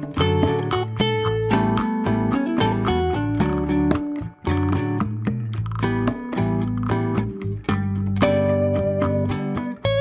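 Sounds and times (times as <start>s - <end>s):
bass line: 0.0s - 10.0s
plucked guitar music: 0.0s - 10.0s
steady beat: 0.0s - 10.0s.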